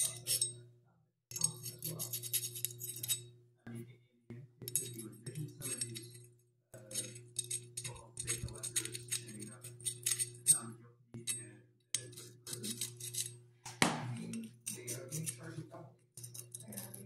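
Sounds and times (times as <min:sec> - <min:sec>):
metal scraping and clicking: 0:00.0 - 0:00.6, 0:01.3 - 0:03.3, 0:04.6 - 0:11.4, 0:12.0 - 0:15.6, 0:16.2 - 0:17.0.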